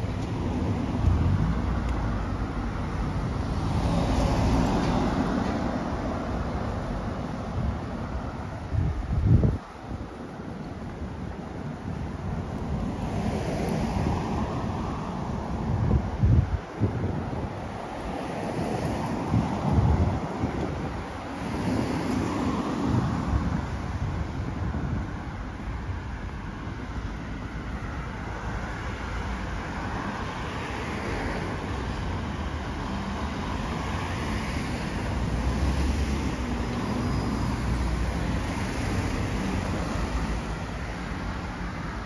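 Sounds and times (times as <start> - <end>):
cars driving past: 0.0 - 10.0, 10.8 - 42.0.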